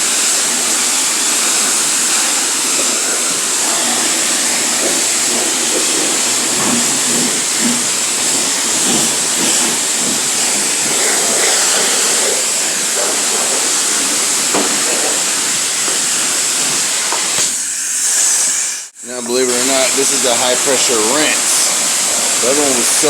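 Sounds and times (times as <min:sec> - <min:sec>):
pressure washer spraying car: 0:00.0 - 0:23.0.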